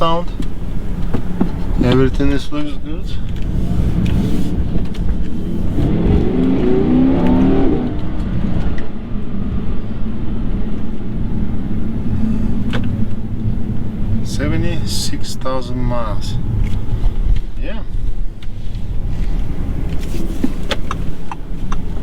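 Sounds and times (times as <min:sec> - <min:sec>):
car engine accelerating: 0:00.0 - 0:22.0
road noise: 0:00.0 - 0:22.0.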